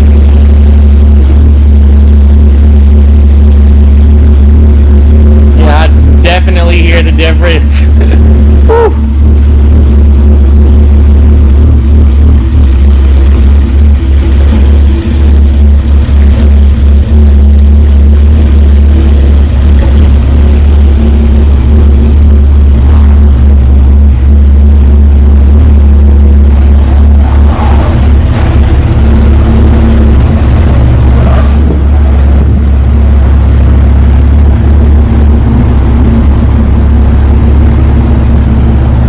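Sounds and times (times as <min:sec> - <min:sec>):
car engine idling deep drone: 0:00.0 - 0:39.0.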